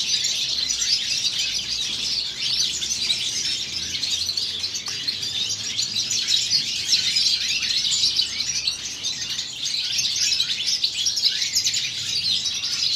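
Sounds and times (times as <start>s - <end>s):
goldfinch twittering song: 0.0s - 12.9s.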